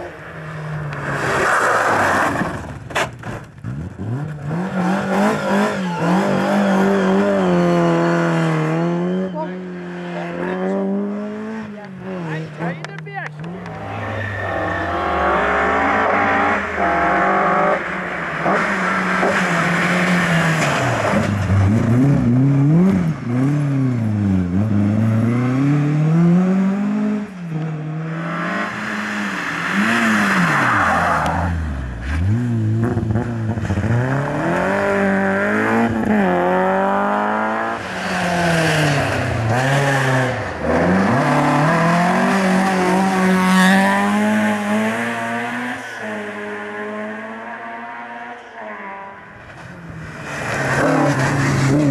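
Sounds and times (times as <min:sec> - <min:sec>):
rally car engines revving hard: 0:00.0 - 0:51.9.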